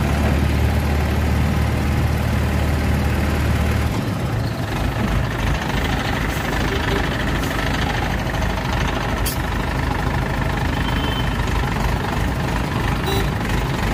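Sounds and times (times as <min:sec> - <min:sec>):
diesel engine low rumble: 0:00.0 - 0:13.9.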